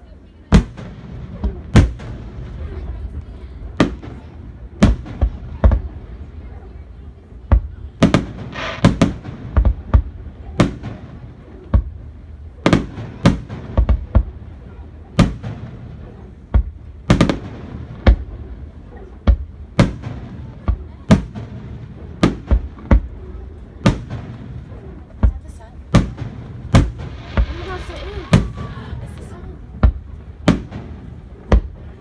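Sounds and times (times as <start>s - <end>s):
fireworks bangs with rumble: 0.5s - 32.0s.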